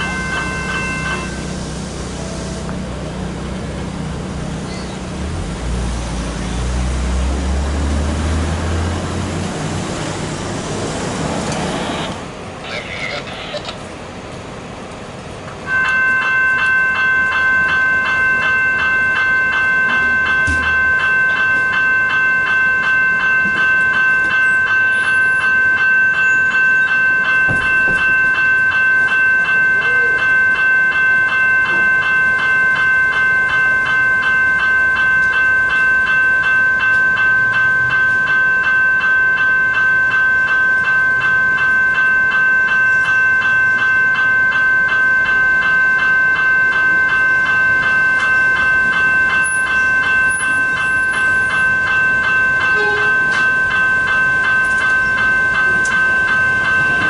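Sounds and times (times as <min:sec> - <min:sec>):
level crossing bells ringing: 0:00.0 - 0:11.4, 0:15.6 - 0:57.0.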